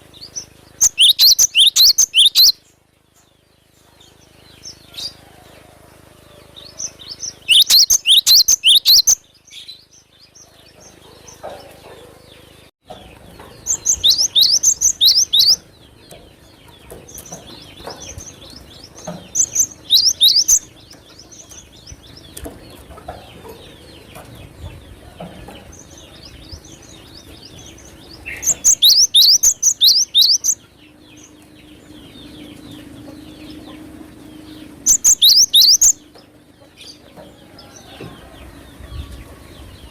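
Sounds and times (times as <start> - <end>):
bird chirping: 0.0 - 5.2, 6.3 - 39.9.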